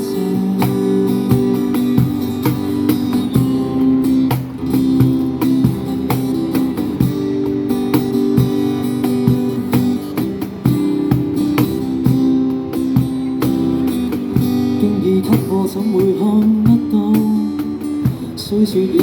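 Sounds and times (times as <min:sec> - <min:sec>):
drum beat: 0:00.0 - 0:18.4
electric guitar playing: 0:00.0 - 0:19.0.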